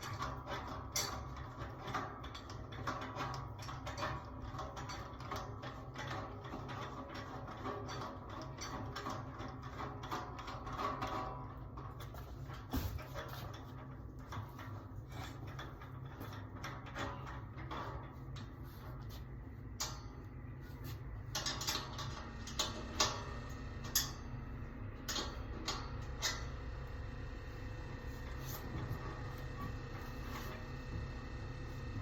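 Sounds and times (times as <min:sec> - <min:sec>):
clicks and clinks of rack parts: 0:00.0 - 0:26.7
steady low hum: 0:00.0 - 0:32.0.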